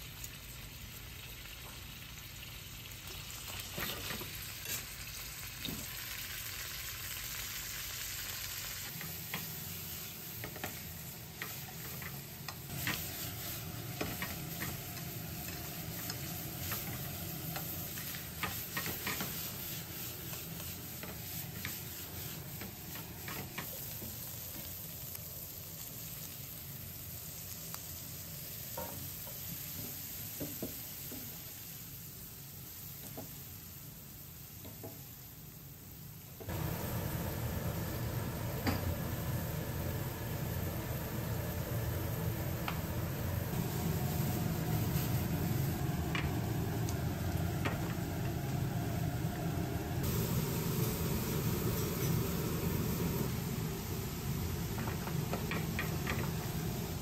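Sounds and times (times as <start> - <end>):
food sizzling in frying pan: 0.0 - 57.0.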